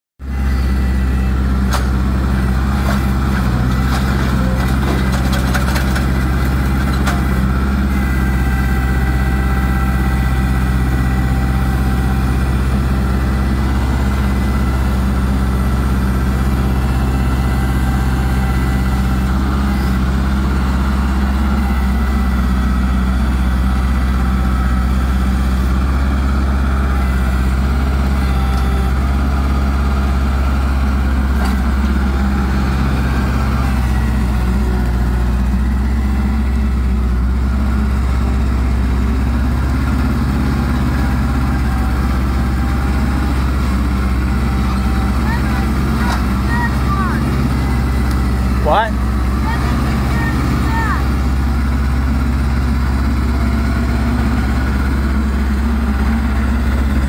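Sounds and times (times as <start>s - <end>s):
tractor engine droning: 0.2s - 57.0s.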